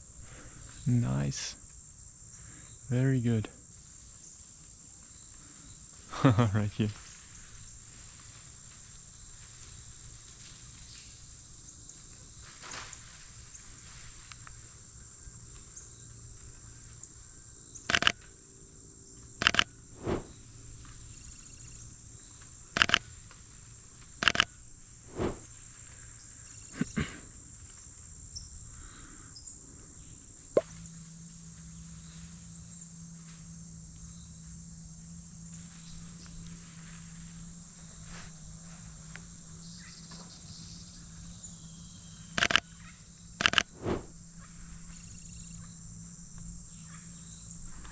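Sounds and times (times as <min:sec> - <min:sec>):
insect chirps: 0:00.0 - 0:47.9
insect drone: 0:00.0 - 0:47.9.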